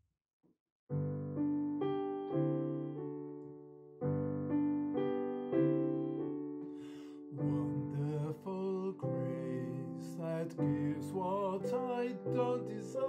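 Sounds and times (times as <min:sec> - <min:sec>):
piano chords: 0:00.9 - 0:13.0.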